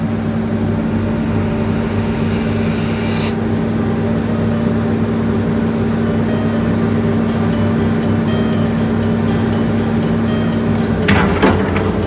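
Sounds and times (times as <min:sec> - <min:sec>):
bulldozer diesel engine running: 0:00.0 - 0:12.0
faint high whine: 0:00.0 - 0:12.0.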